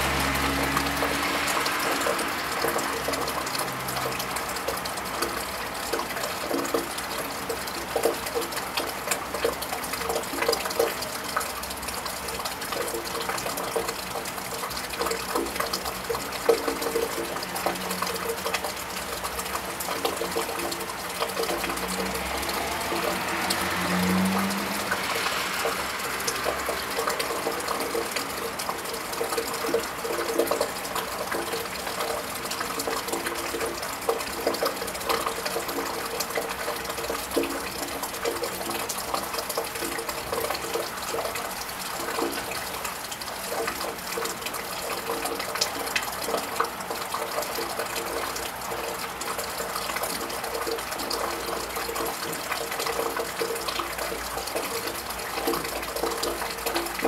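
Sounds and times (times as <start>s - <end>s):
rain on a tiled roof: 0.0s - 57.0s
water drips and splashes: 0.0s - 57.0s.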